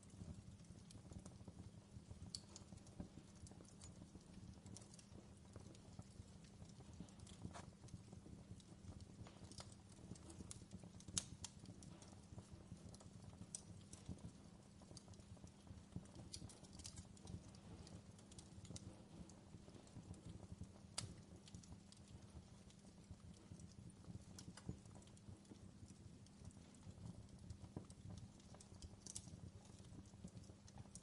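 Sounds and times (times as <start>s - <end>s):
fireplace fire crackling softly: 0.0s - 31.0s.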